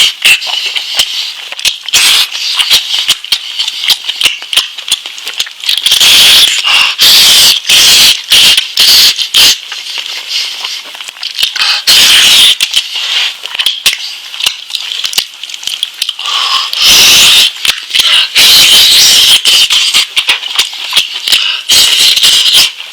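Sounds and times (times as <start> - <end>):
wet chewing and mouth smacking: 0.0 - 22.9.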